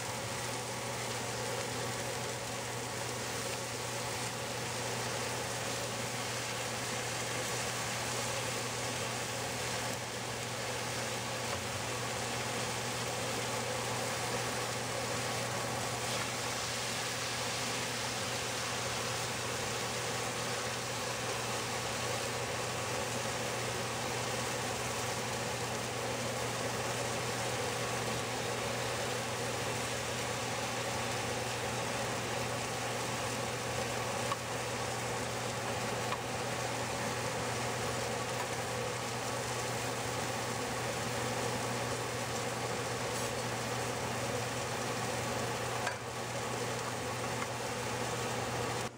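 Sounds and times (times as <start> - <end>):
steaks sizzling in a frying pan: 0.1 - 48.8.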